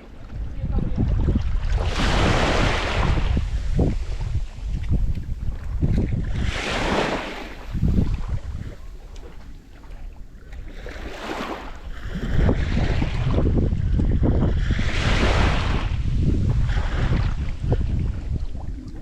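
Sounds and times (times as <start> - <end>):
water washing at shore: 0.0 - 19.0
wind buffeting microphone: 0.0 - 19.0.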